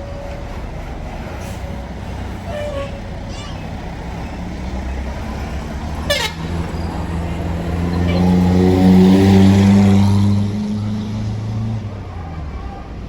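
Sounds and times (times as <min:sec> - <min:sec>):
bus diesel engine accelerating: 0:00.0 - 0:13.0.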